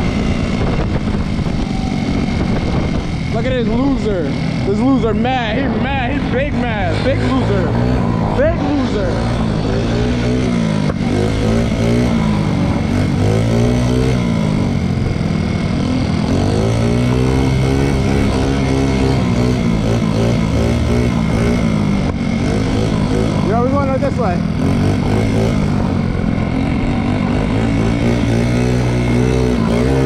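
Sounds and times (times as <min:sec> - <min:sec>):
moped engine revving: 0:00.0 - 0:30.0
wind and road noise: 0:00.0 - 0:30.0.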